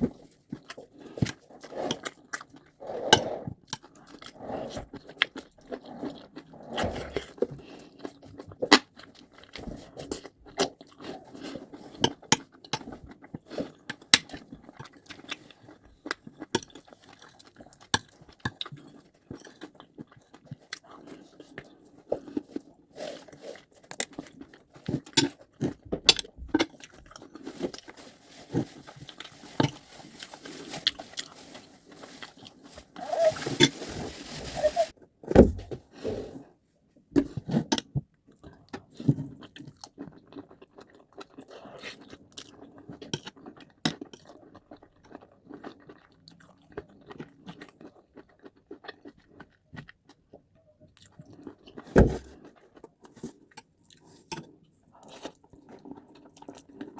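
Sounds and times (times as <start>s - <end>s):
person chewing food: 0.0s - 35.0s, 37.4s - 56.9s.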